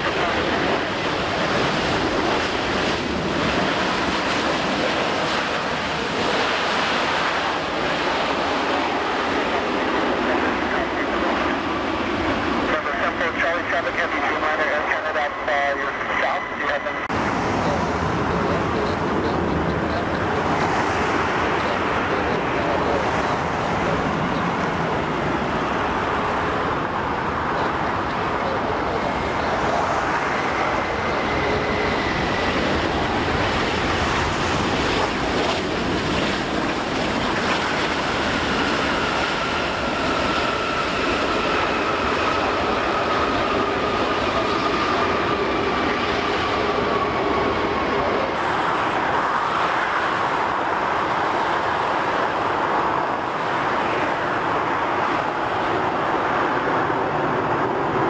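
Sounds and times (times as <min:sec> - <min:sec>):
jet engines on approach: 0:00.0 - 0:58.0
jet engines rushing with whine: 0:00.0 - 0:58.0.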